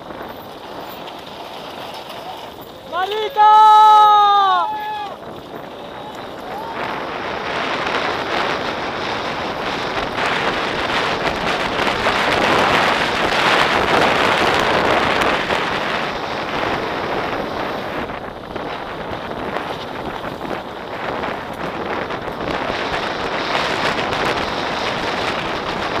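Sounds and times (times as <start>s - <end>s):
bike tyres rattling over gravel: 0.0s - 26.0s
wind rushing over microphone: 0.0s - 26.0s.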